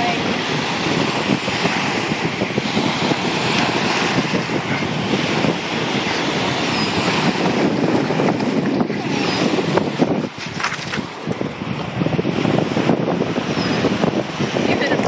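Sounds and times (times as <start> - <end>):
waves washing onto pebble shore: 0.0 - 15.0
wind buffeting microphone: 0.0 - 15.0.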